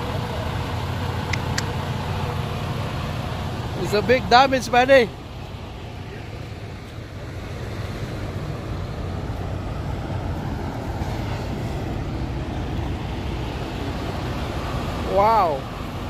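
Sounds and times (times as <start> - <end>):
truck engines droning: 0.0 - 16.0.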